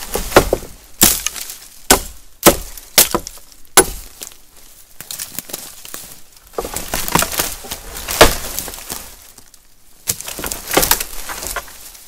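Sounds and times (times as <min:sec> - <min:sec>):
dry wood cracking and splintering: 0:00.0 - 0:12.0.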